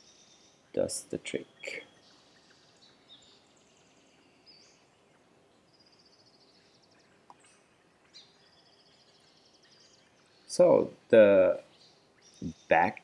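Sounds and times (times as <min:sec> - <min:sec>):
distant birds chirping: 0:00.0 - 0:13.0
faint background hiss: 0:00.0 - 0:13.0.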